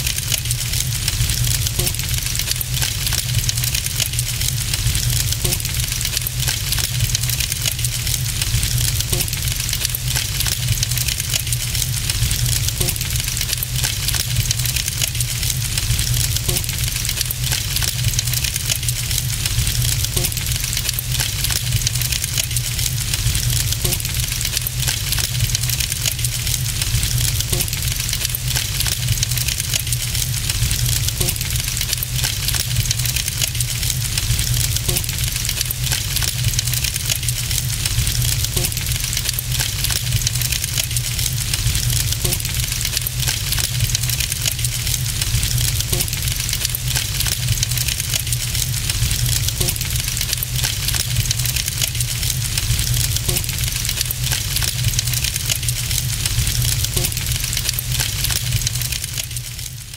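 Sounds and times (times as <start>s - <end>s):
fire roaring and crackling: 0.1s - 59.9s.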